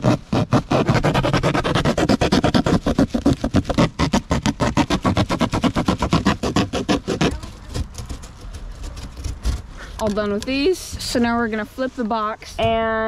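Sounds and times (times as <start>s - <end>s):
hacksaw sawing cardboard: 0.0s - 10.6s.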